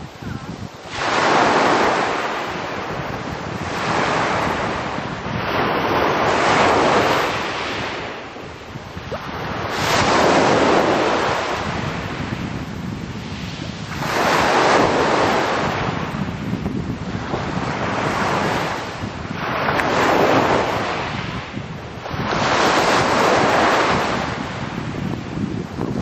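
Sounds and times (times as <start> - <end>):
waves breaking on pebble beach: 0.1 - 26.0.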